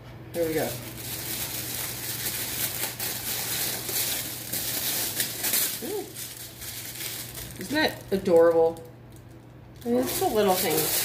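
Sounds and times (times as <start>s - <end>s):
tissue paper rustling and crinkling: 0.4s - 8.8s, 9.8s - 11.0s.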